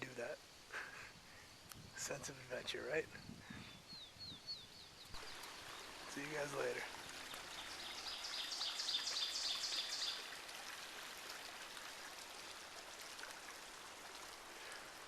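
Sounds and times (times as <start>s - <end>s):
woodland background hiss: 0.0s - 15.0s.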